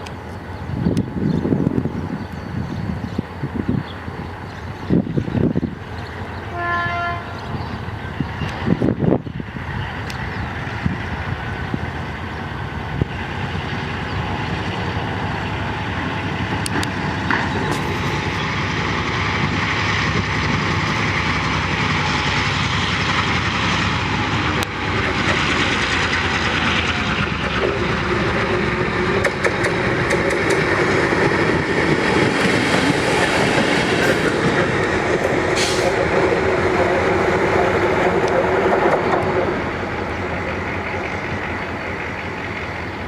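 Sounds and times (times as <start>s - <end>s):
sharp clicks from wheels and couplings: 0.0s - 3.4s, 7.8s - 43.0s
locomotive engine and wheels: 0.0s - 43.0s.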